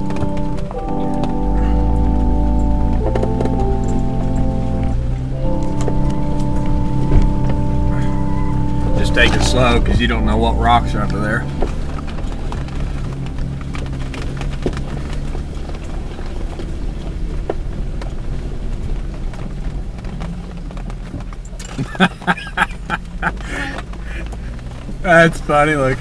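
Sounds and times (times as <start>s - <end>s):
engine running low: 0.0s - 26.0s.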